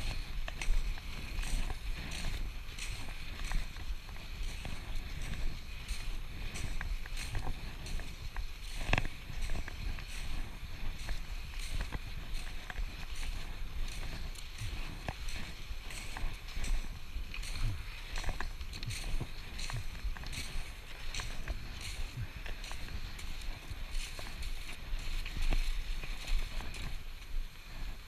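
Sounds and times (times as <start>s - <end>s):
skis swishing over snow: 0.0s - 28.0s.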